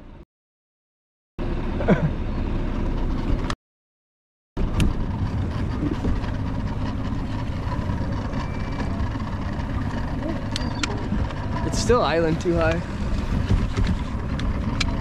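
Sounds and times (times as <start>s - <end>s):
outboard motor running: 1.4s - 3.6s, 4.6s - 15.0s.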